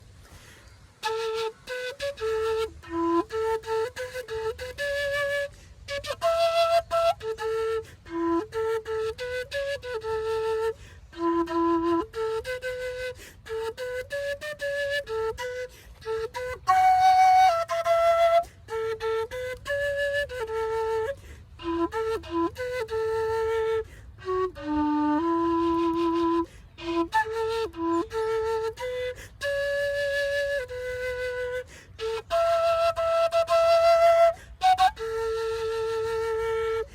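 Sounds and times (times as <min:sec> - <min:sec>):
flute melody: 0:00.0 - 0:36.9.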